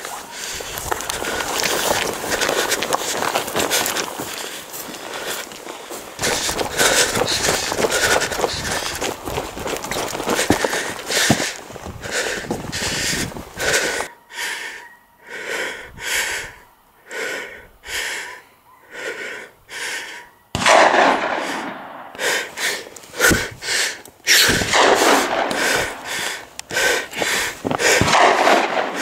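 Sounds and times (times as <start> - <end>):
person breathing hard: 0.0 - 20.3, 21.2 - 29.0.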